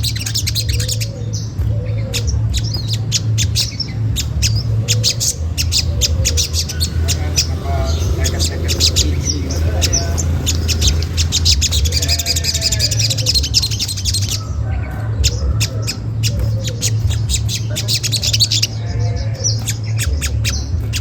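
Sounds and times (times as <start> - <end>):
high bird twittering: 0.0 - 21.0
steady low hum: 0.0 - 21.0
sunbird chipping calls: 0.0 - 21.0.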